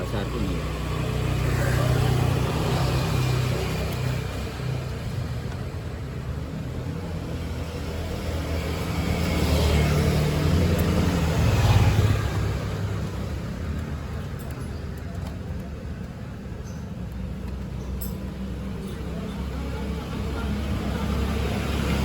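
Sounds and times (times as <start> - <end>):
vehicle engines passing by: 0.0 - 22.0.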